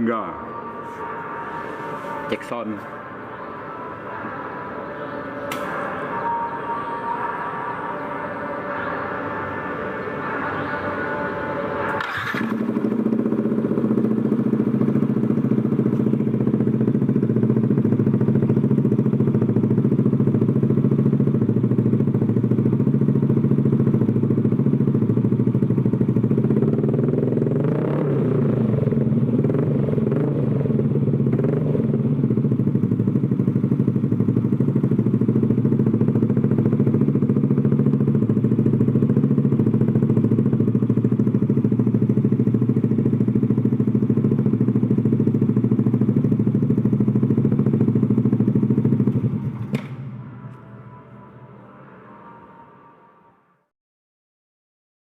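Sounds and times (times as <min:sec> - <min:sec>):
scooter engine idling: 0:00.0 - 0:27.8, 0:28.5 - 0:51.0.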